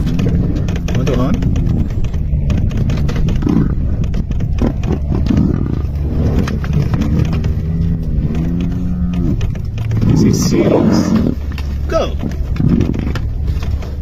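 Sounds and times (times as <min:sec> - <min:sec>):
drawn-out animal calls: 0:00.0 - 0:14.0.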